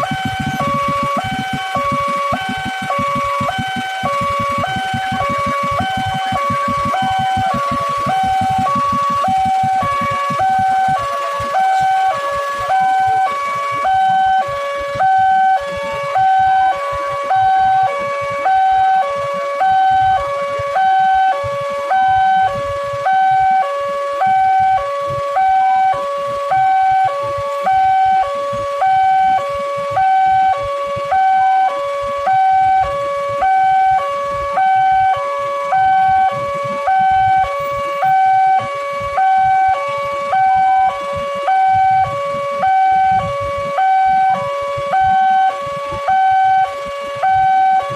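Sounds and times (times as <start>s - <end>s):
two-tone crossing alarm: 0.0s - 47.9s.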